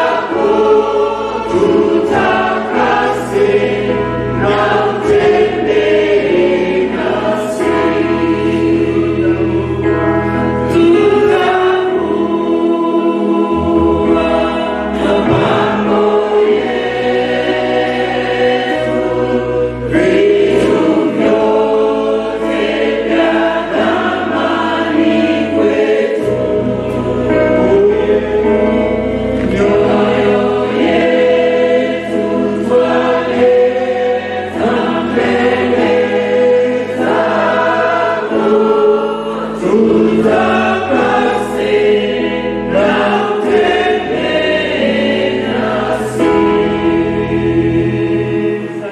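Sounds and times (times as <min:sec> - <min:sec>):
choir singing gospel: 0:00.0 - 0:48.9.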